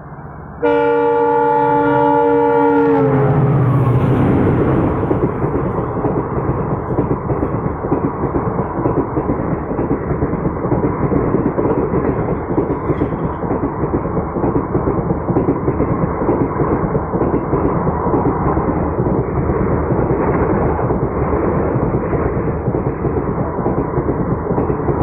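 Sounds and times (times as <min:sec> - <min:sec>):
train coaches rumbling past: 0:00.0 - 0:25.0.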